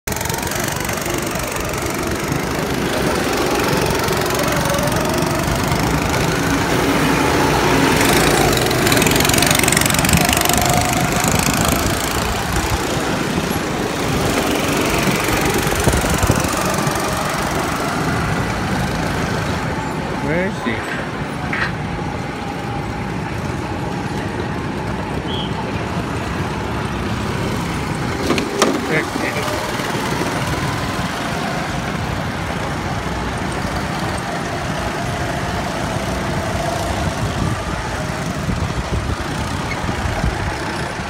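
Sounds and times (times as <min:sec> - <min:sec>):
go-kart engines: 0:00.0 - 0:41.0.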